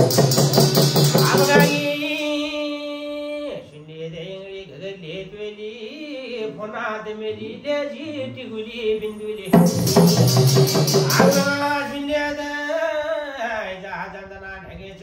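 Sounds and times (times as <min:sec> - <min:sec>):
person chanting unaccompanied: 0:01.1 - 0:15.0.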